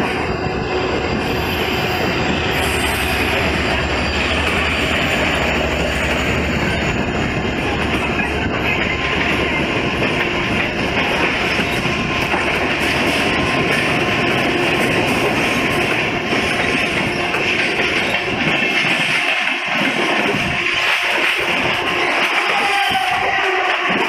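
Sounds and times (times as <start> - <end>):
train wheels rumbling and rattling: 0.0 - 24.0.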